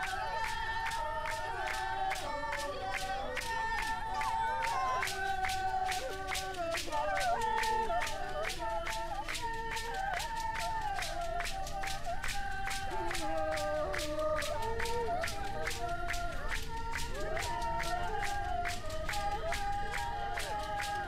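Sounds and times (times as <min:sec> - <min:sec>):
fast hand-clapping beat: 0:00.0 - 0:21.0
group of voices singing: 0:00.0 - 0:21.0.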